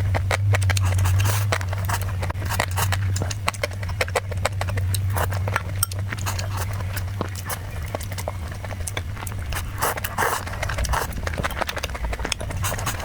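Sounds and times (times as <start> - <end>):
chewing and mouth noises: 0.0 - 13.0
steady low hum: 0.0 - 13.0.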